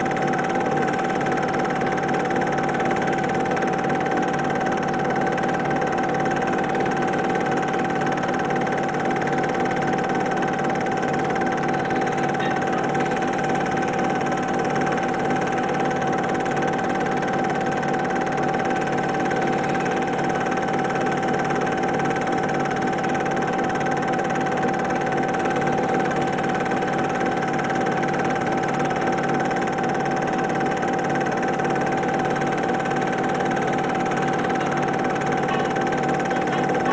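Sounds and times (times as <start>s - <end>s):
film projector whirring: 0.0s - 36.9s.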